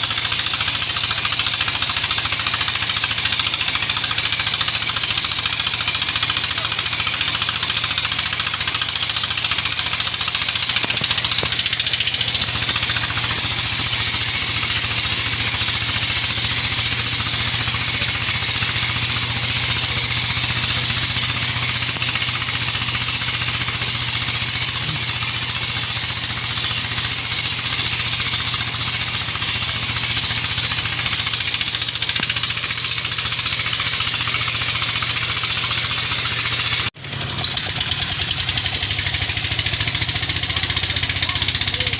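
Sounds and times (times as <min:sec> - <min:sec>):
diesel engine running steadily: 0:00.0 - 0:41.9.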